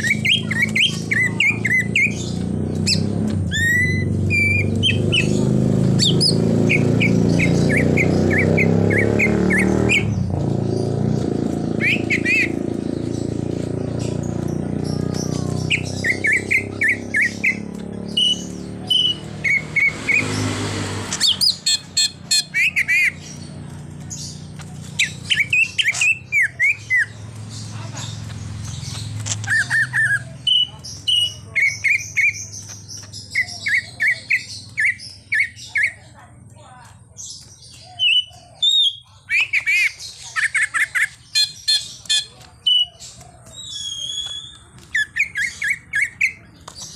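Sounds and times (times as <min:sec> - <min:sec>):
bird chirping: 0:00.0 - 0:46.9.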